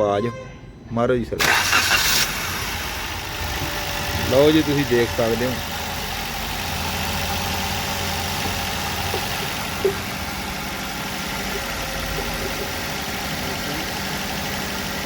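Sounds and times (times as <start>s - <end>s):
car engine idling: 1.4s - 15.0s.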